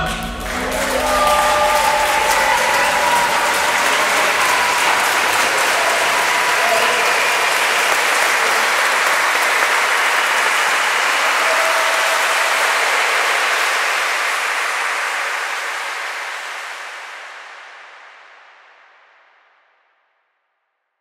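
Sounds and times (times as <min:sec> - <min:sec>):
audience applause: 0:00.0 - 0:17.9.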